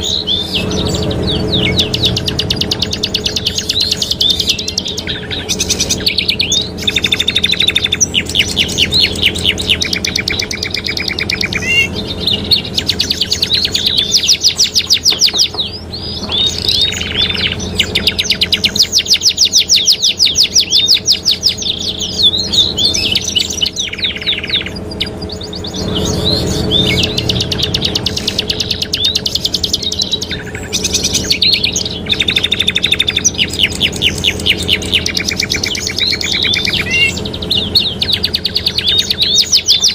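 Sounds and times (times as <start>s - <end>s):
canaries singing trills: 0.0s - 39.9s
steady low hum: 0.0s - 39.9s.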